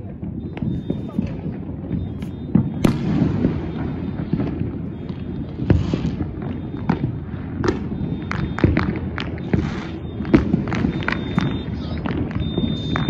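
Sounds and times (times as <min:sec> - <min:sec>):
distant fireworks banging: 0:00.0 - 0:13.0
fireworks crackling fizz: 0:00.0 - 0:13.0.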